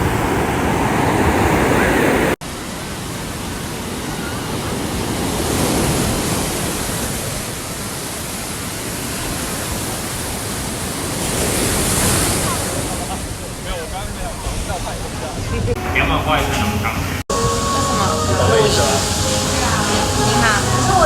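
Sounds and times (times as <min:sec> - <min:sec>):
ocean surf washing on beach: 0:00.0 - 0:21.0.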